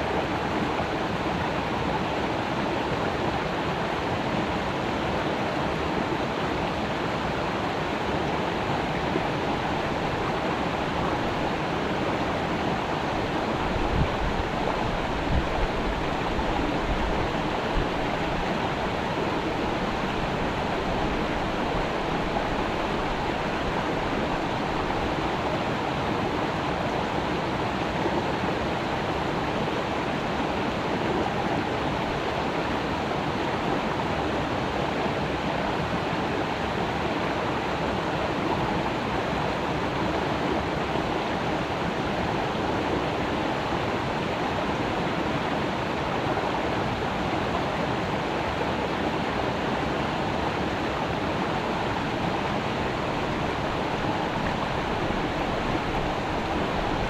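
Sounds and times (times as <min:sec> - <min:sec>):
creek water over rocks: 0:00.0 - 0:57.0.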